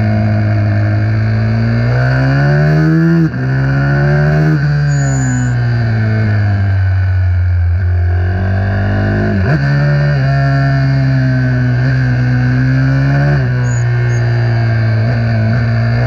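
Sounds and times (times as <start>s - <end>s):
minibike engine at high revs: 0.0s - 16.0s.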